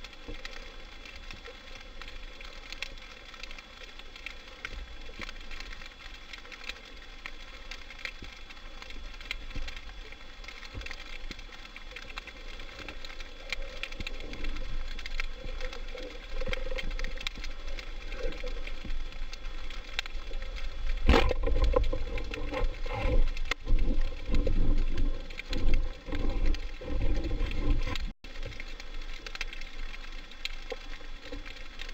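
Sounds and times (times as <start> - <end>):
steady underwater crackle: 0.0 - 31.9.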